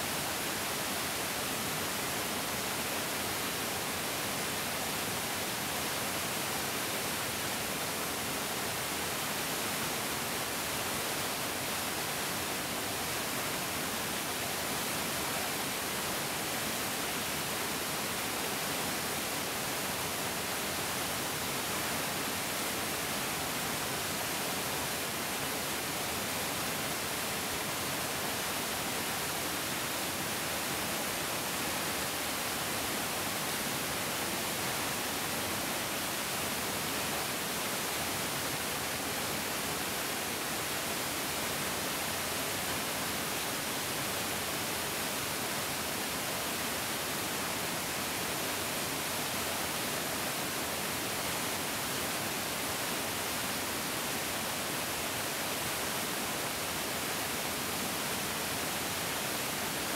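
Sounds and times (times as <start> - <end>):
stream flowing fast: 0.0 - 59.9.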